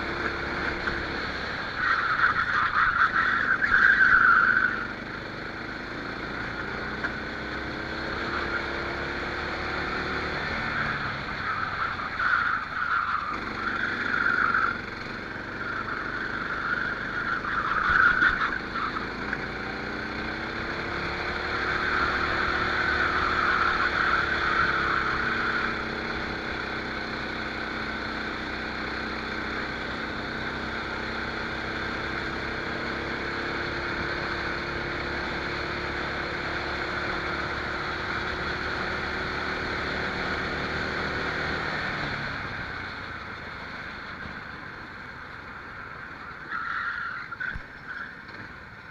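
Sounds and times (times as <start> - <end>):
kart engine revving: 0.0 - 48.9.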